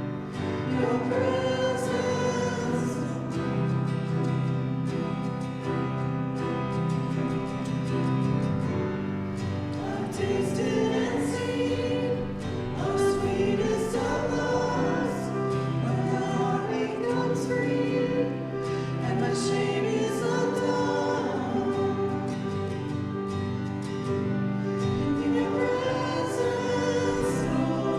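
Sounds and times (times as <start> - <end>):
people singing a hymn: 0.0 - 5.4, 8.0 - 27.9.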